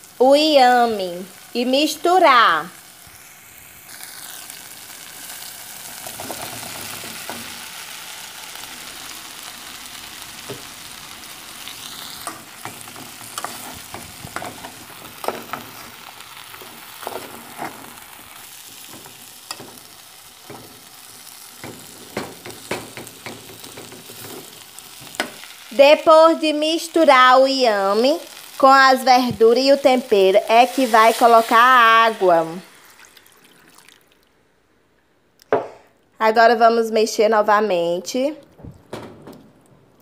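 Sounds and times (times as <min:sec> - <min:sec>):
vegetables sizzling in oil: 0:00.0 - 0:34.2.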